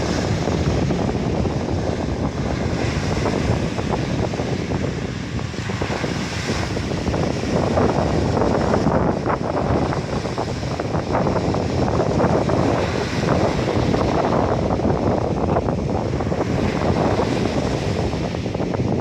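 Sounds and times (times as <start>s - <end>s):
small waves washing on shore: 0.0s - 19.0s
wind buffeting microphone: 0.0s - 19.0s.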